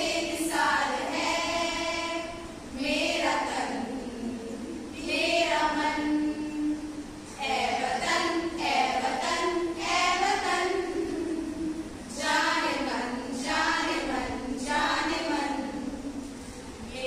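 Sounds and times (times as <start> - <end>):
women singing in unison: 0.0 - 17.0.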